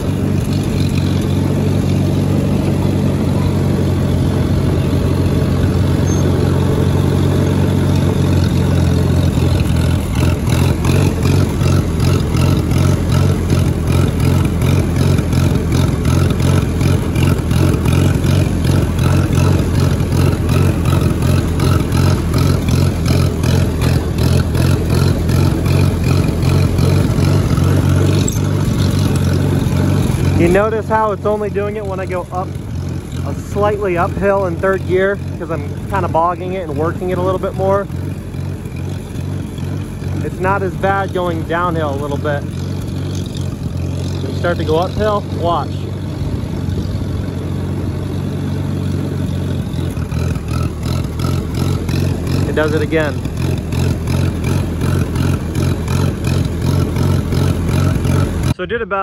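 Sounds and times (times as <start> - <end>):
engine sputtering and popping: 0.0 - 59.0
tractor engine running: 0.0 - 59.0.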